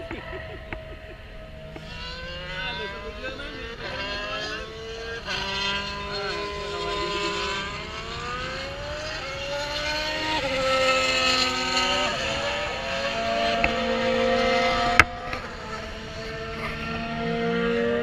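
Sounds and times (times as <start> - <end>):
racing engines shifting gears: 0.0 - 18.0.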